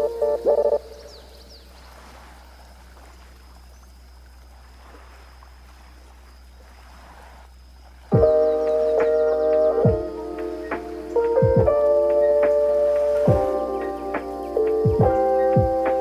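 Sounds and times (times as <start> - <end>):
sea waves washing softly: 0.0 - 16.0.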